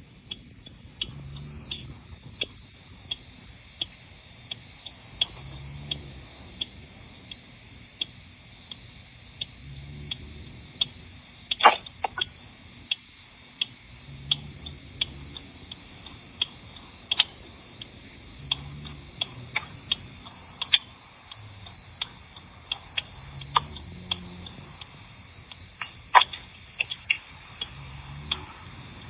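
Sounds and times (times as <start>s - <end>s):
metronome clicking over phone line: 0.2s - 29.0s.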